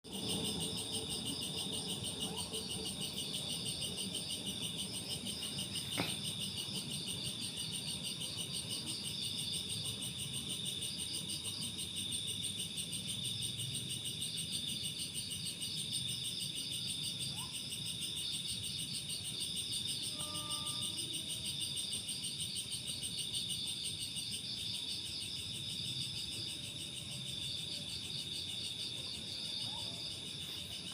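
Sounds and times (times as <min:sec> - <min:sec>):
insect chorus trilling: 0:00.1 - 0:30.9.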